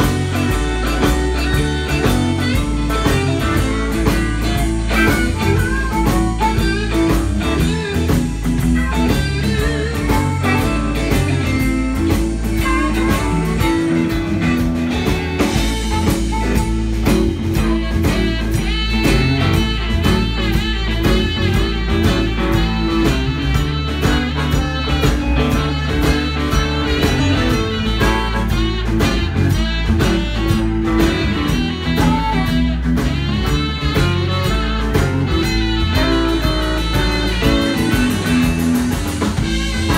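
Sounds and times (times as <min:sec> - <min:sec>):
blues band playing: 0:00.0 - 0:39.9
harmonica wailing: 0:00.0 - 0:39.9
saxophones: 0:00.0 - 0:39.9.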